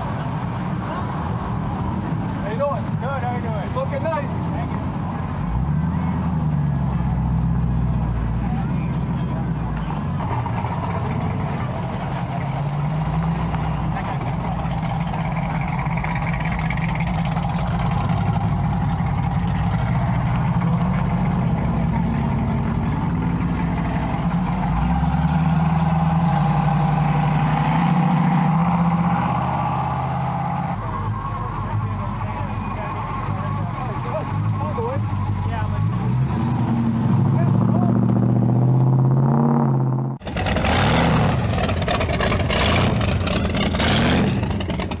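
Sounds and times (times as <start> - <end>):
car engine idling: 0.0 - 27.5, 30.4 - 38.9, 40.2 - 45.0.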